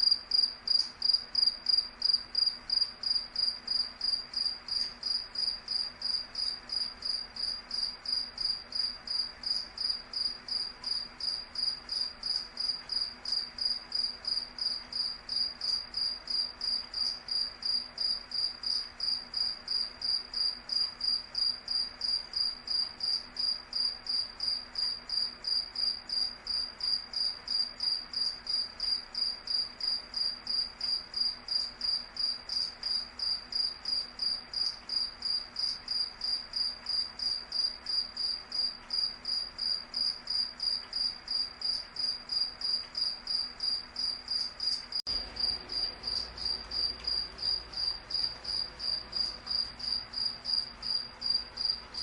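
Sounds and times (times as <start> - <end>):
cricket chirping: 0.0 - 52.0.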